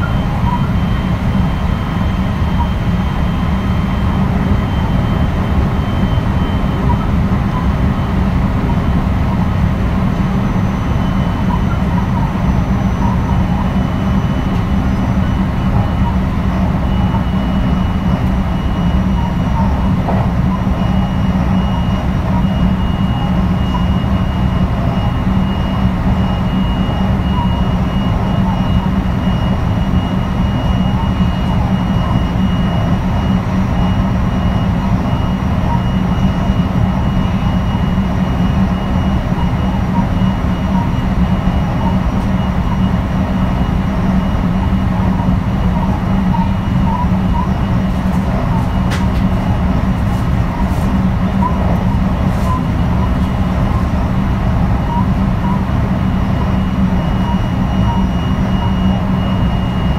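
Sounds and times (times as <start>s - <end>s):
rumble of wheels on rail: 0.0s - 59.9s.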